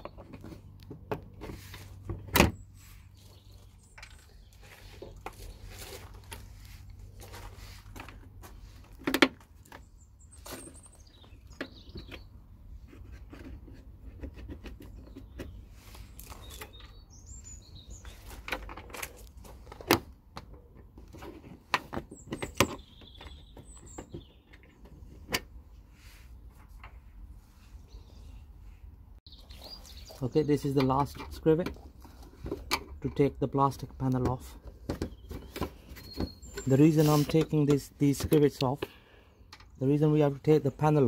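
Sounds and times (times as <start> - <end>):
birds chirping: 0.0 - 9.0, 9.6 - 13.8, 14.6 - 19.9, 20.5 - 25.4, 26.1 - 41.0.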